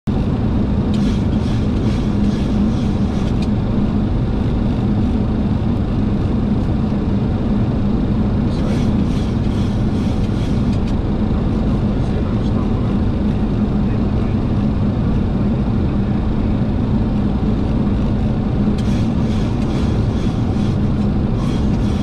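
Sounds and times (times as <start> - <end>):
aircraft engine noise: 0.1 - 22.0
airflow over cockpit: 0.1 - 22.0
steady low hum: 0.1 - 22.0.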